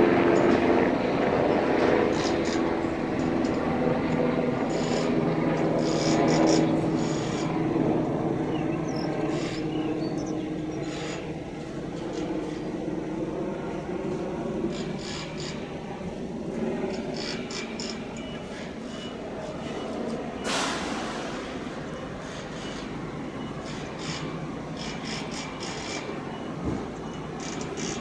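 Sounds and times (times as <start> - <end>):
crane diesel engine running: 0.0 - 28.0.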